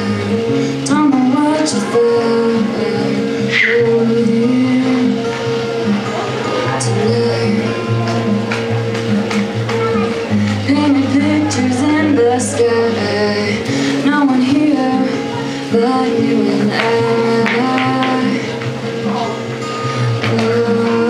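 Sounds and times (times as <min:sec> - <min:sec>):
woman singing: 0:00.0 - 0:08.8, 0:09.7 - 0:21.0
acoustic guitar chords: 0:00.0 - 0:21.0.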